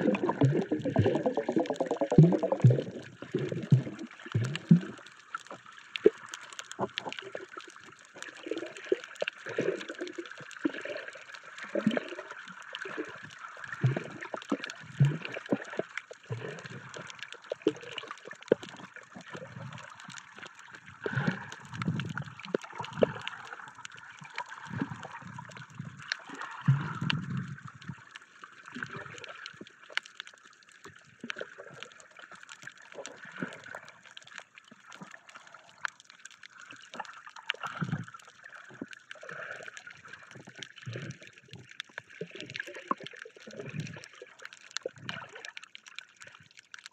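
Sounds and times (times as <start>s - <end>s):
underwater gurgling and sloshing: 0.0s - 46.9s.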